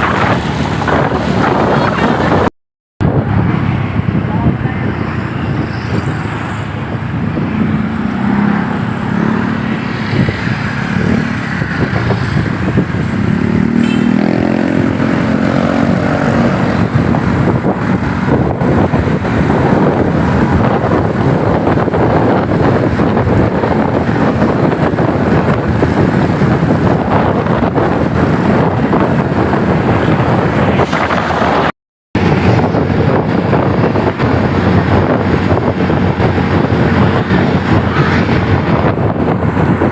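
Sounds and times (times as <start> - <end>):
motorcycle engine: 0.0 - 39.9
wind rush on microphone: 0.0 - 39.9.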